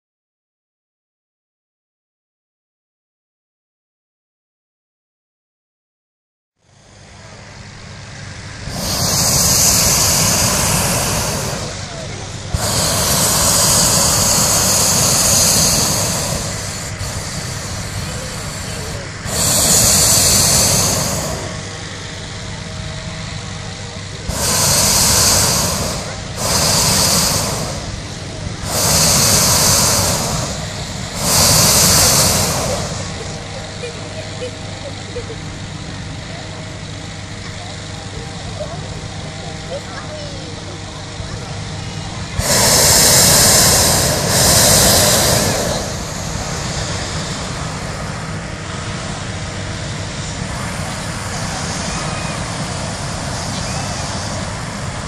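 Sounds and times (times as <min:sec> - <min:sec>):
propane burner blasts: 0:06.6 - 0:55.0
steady low rumble: 0:06.7 - 0:55.0.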